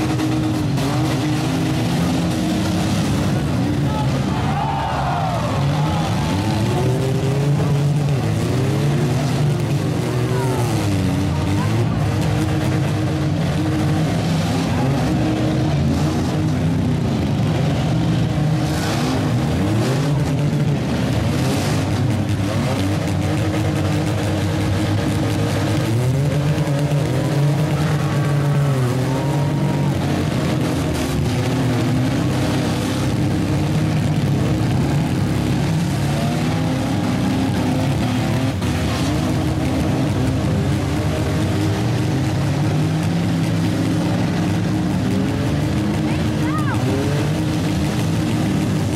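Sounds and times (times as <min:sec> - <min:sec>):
engines revving: 0:00.0 - 0:48.9.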